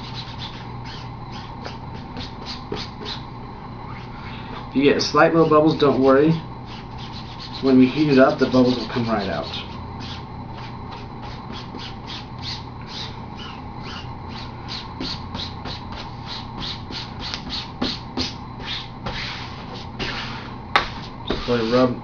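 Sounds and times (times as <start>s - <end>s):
fingers rubbing a laptop skin: 0.0s - 3.2s, 6.7s - 21.9s.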